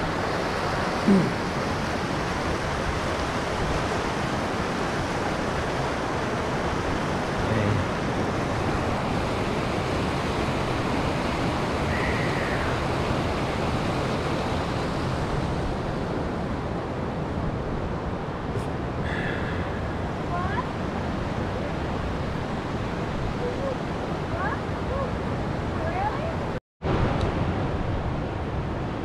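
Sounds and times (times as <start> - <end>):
river rushing over rocks: 0.0 - 28.9.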